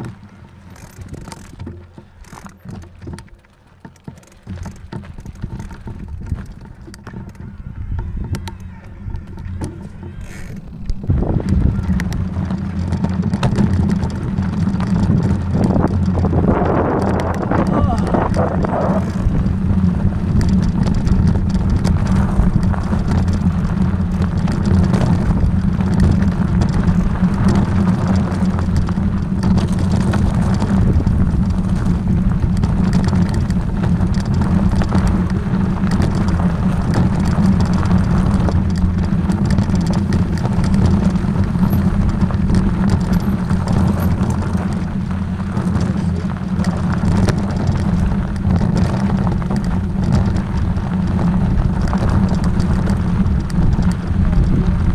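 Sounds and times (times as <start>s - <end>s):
knocks and rattles: 0.0s - 54.9s
road noise: 0.0s - 54.9s
vehicle engine drone: 0.0s - 54.9s.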